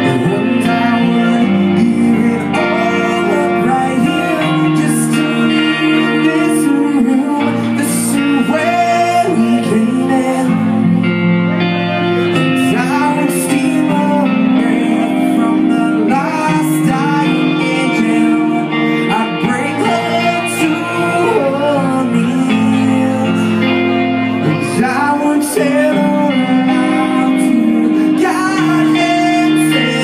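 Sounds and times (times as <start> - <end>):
men singing: 0.0 - 11.0, 12.4 - 30.0
electric guitars: 0.0 - 30.0.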